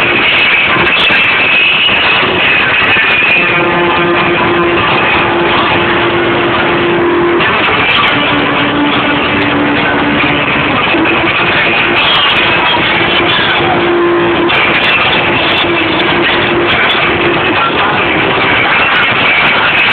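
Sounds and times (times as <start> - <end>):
live band with electric guitar: 0.0 - 19.9.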